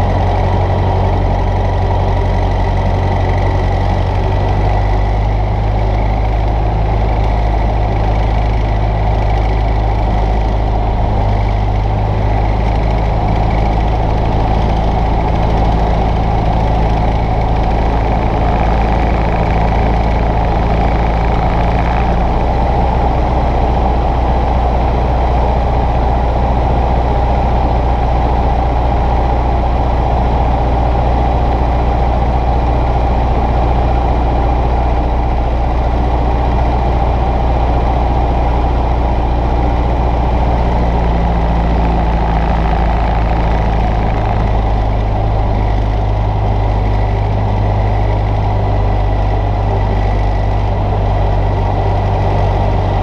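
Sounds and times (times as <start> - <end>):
small plane engine droning: 0.0 - 53.0.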